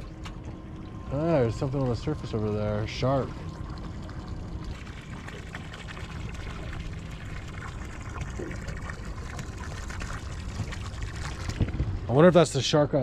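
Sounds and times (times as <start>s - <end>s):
water lapping against boat hull: 0.0s - 12.2s.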